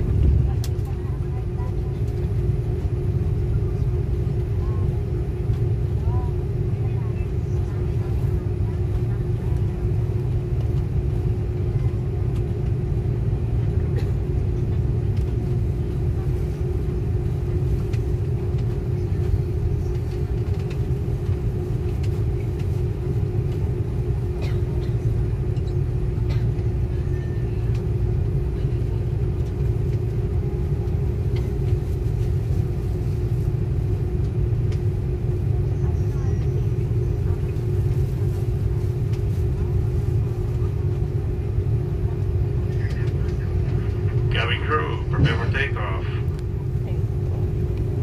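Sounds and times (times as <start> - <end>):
airliner cabin low rumble: 0.0 - 48.0
constant hum: 0.0 - 48.0.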